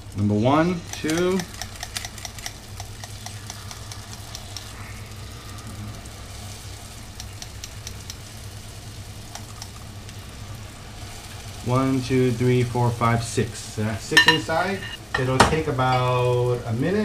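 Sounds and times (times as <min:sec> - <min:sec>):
low steady hum: 0:00.0 - 0:17.0
oil sizzling with pops: 0:00.0 - 0:17.0.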